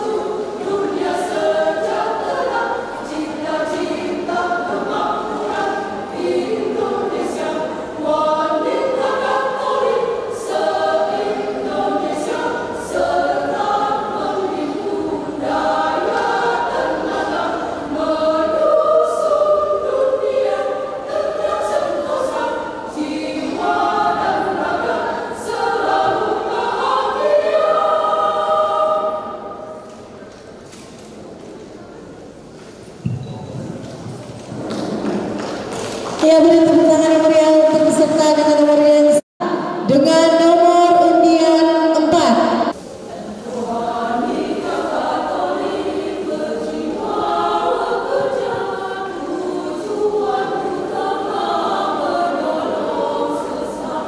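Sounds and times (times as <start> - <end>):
women's choir singing: 0.0 - 30.2, 34.6 - 54.0.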